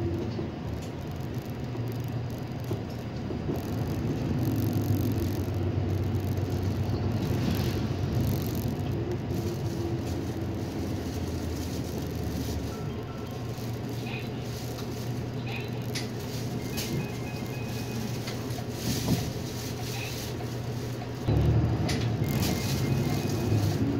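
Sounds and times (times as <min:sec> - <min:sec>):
bus engine and road noise: 0:00.0 - 0:23.9.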